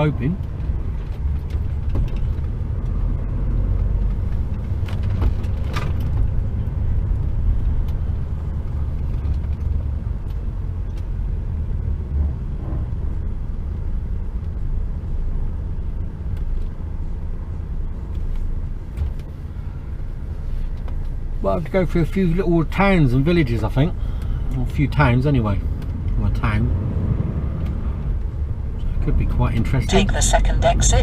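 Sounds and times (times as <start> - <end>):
truck engine and road rumble: 0.0 - 31.0.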